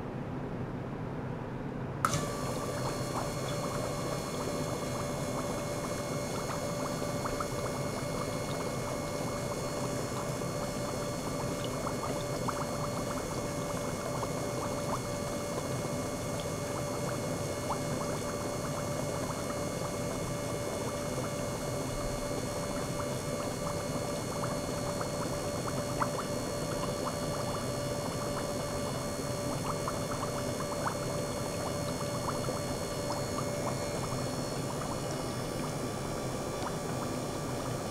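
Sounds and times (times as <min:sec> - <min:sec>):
gear pump humming: 0:02.0 - 0:37.9
water splashing and bubbling into bowl: 0:02.1 - 0:37.9.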